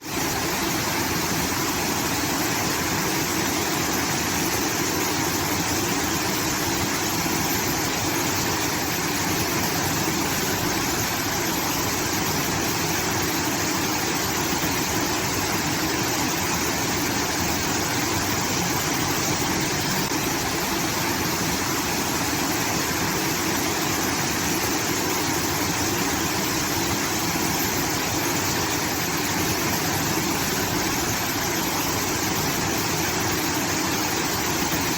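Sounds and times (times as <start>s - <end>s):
water rushing from outlet: 0.0s - 34.9s.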